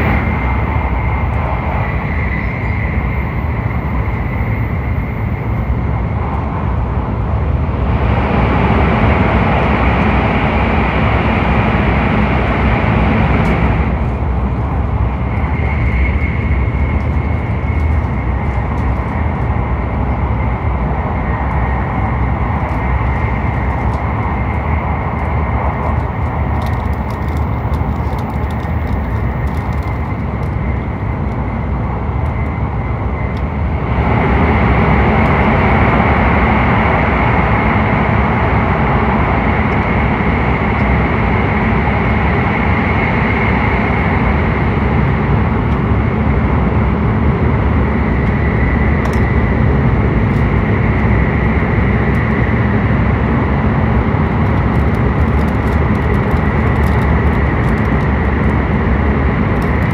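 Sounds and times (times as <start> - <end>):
train running noise in cabin: 0.0 - 59.9.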